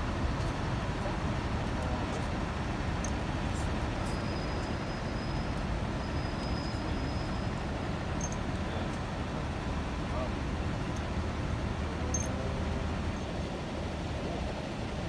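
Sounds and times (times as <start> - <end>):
city street rumble: 0.0 - 15.0.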